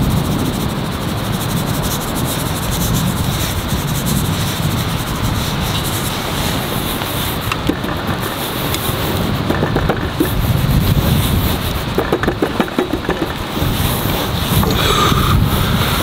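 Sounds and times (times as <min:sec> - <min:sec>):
hands rubbing seasoning into meat: 0:00.0 - 0:16.0
seasoning shaker shaking: 0:00.0 - 0:16.0
steady rushing noise with crackles: 0:00.0 - 0:16.0.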